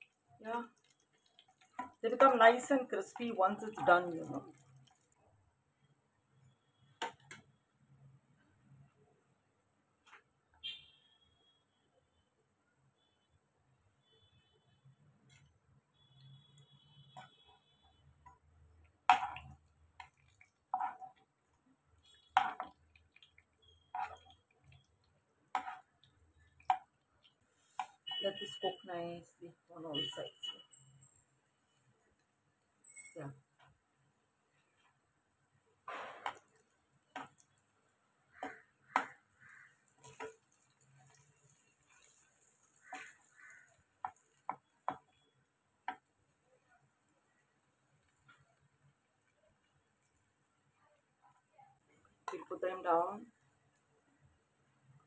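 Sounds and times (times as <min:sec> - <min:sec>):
faint frying: 0:00.0 - 0:11.8, 0:12.5 - 0:55.0.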